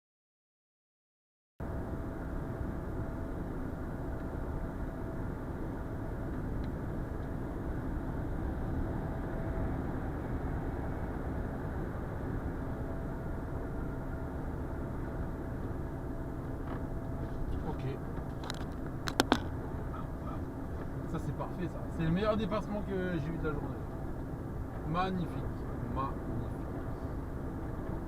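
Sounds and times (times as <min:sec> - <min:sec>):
faint constant hum: 0:01.6 - 0:28.0
truck engine and road noise: 0:01.6 - 0:28.0.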